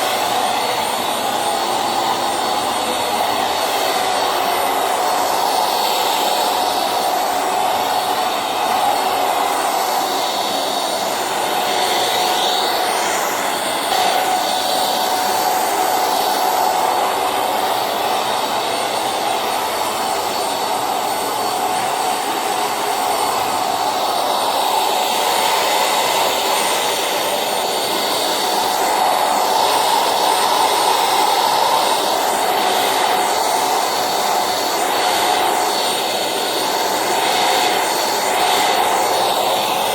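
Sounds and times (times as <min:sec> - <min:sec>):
handheld vacuum cleaner whining: 0:00.0 - 0:39.9.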